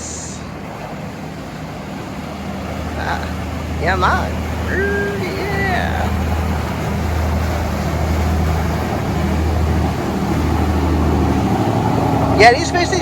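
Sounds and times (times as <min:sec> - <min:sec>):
boat engines droning: 0:00.0 - 0:13.0
water rushing: 0:00.0 - 0:13.0.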